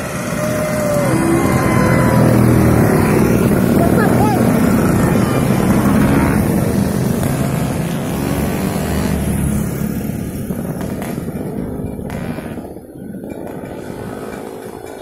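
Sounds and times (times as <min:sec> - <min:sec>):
scooter engines running: 0:00.0 - 0:15.0.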